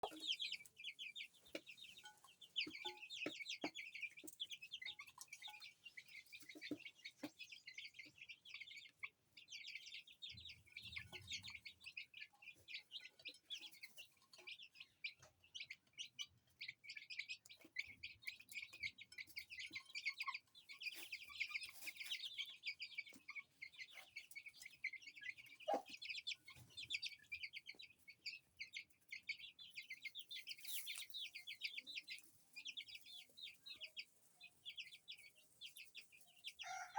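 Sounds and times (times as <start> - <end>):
baby chicks peeping: 0.0 - 36.9
hen clucking: 0.0 - 36.9.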